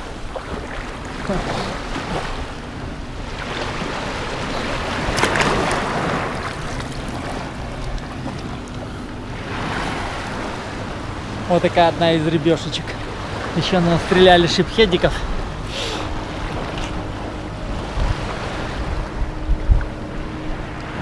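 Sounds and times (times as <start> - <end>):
small waves washing on shore: 0.0 - 21.0
wind buffeting microphone: 0.0 - 21.0.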